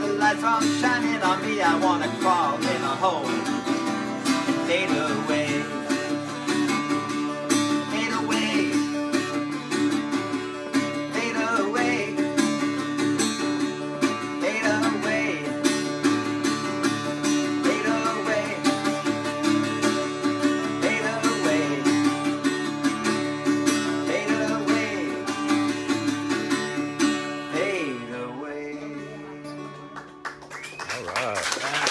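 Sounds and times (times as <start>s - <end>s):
acoustic guitars playing: 0.0s - 30.8s.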